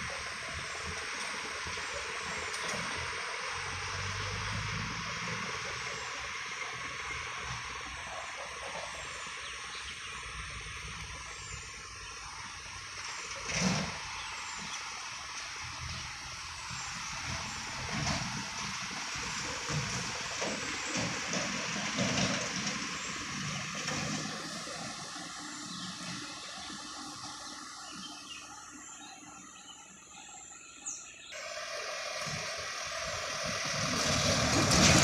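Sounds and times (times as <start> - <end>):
light truck engine humming: 0.0 - 35.0
steady outdoor hiss: 0.0 - 35.0.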